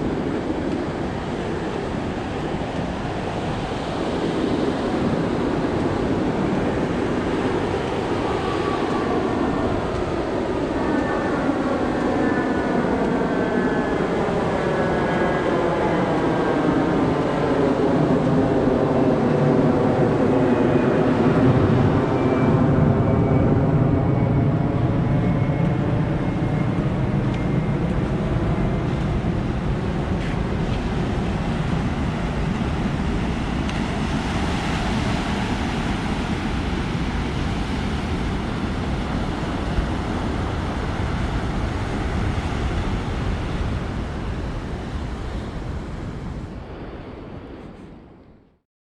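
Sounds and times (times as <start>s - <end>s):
aircraft passing overhead: 0.0s - 48.2s.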